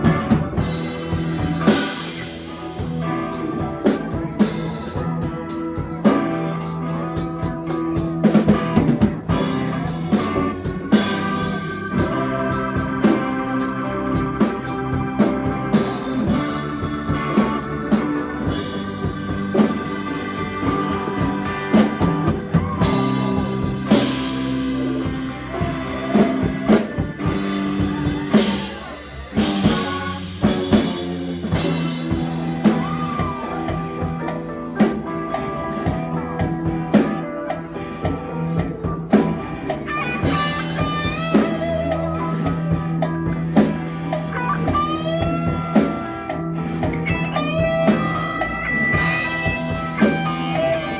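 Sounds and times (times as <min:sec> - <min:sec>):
drum kit: 0:00.0 - 0:50.9
electric guitar: 0:00.0 - 0:50.9.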